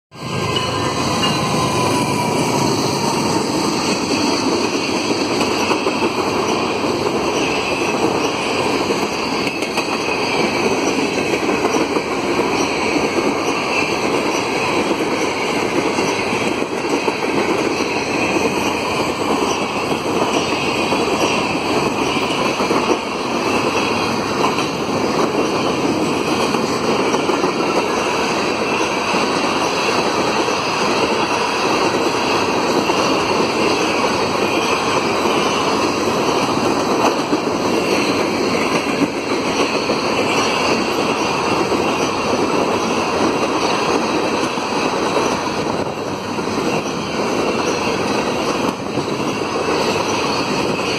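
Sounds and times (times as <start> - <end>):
steel wheels on rail: 0.1 - 50.9.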